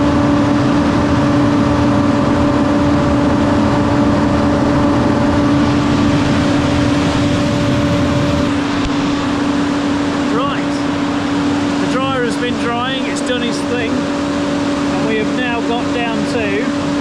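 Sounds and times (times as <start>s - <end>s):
large fan rushing air: 0.0s - 17.0s.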